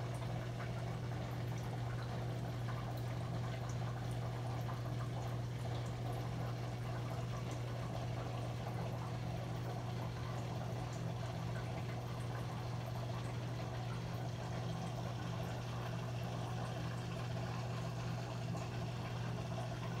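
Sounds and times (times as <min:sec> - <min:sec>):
aquarium filter hum: 0:00.0 - 0:20.0.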